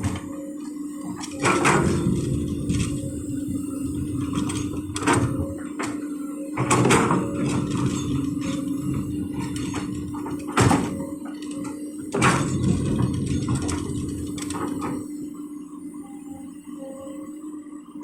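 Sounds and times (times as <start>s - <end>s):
excavator diesel engine: 0.0s - 15.2s.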